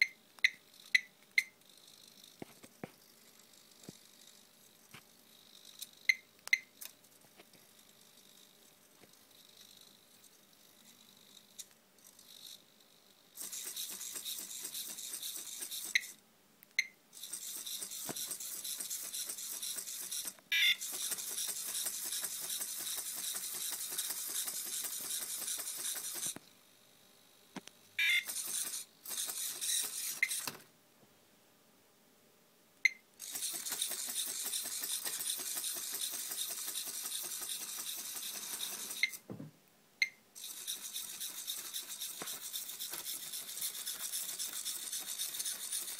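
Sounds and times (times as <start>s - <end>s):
servos whirring and rattling: 1.6s - 6.1s, 6.8s - 16.2s, 17.2s - 26.5s, 28.2s - 30.7s, 33.2s - 39.3s, 40.4s - 45.9s.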